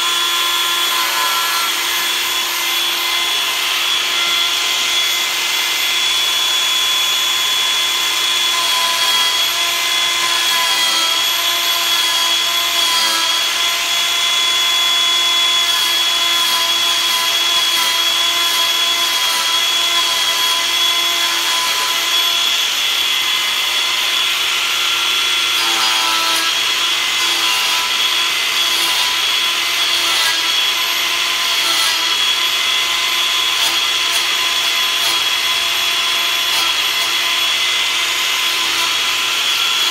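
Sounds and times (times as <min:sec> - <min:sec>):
angle grinder grinding wood: 0:00.0 - 0:39.9.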